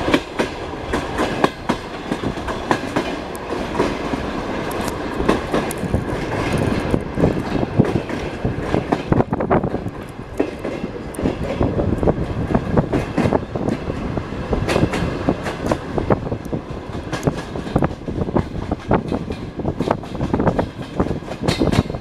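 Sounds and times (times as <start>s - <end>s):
train carriage rumble: 0.0s - 22.0s
train wheels knocking and rattling: 0.0s - 22.0s.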